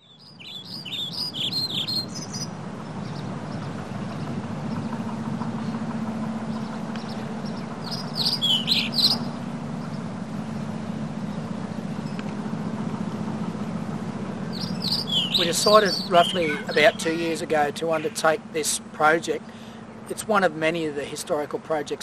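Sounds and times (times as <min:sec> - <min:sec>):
birds chirping: 0:00.0 - 0:22.0
low background hum: 0:00.1 - 0:22.0.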